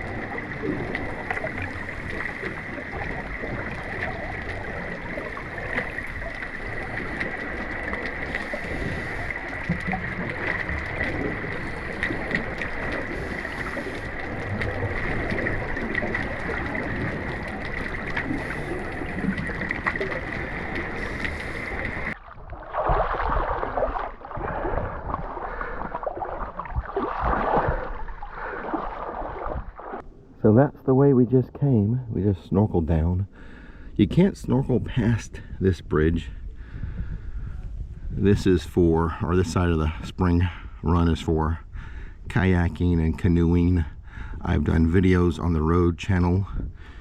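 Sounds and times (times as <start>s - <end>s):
muffled water splashing: 0.0s - 47.0s
water rushing and gurgling underwater: 0.0s - 47.0s.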